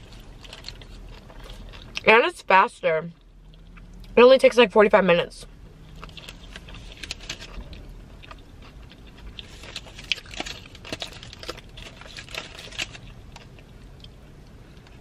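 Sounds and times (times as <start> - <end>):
person chewing food: 0.0 - 2.0, 3.2 - 4.2, 5.7 - 15.0.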